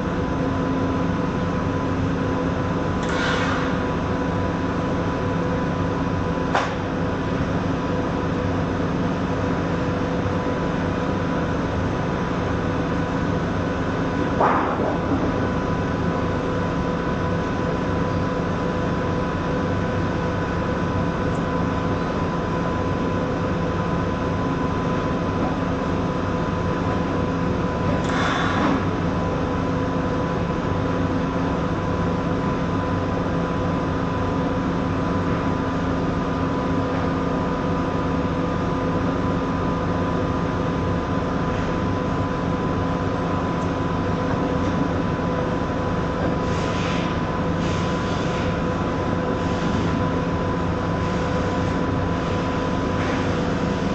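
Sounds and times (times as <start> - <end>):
welding machine electrical hum: 0.0 - 53.9.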